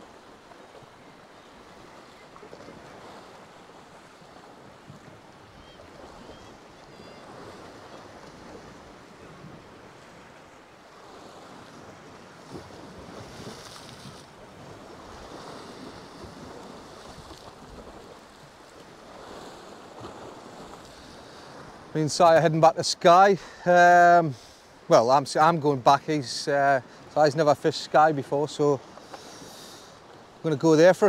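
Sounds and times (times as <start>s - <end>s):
waves breaking against rocks: 0.0s - 31.0s.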